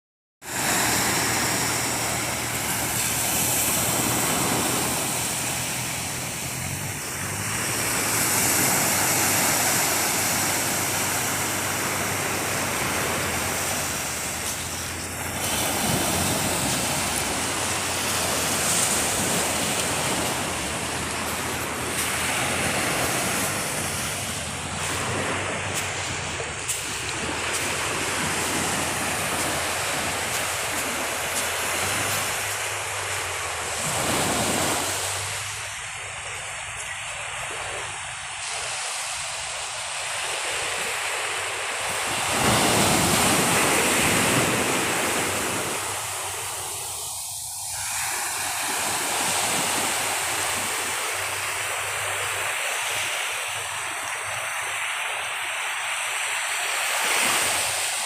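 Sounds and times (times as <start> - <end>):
sea surf breaking on beach: 0.4 - 58.0.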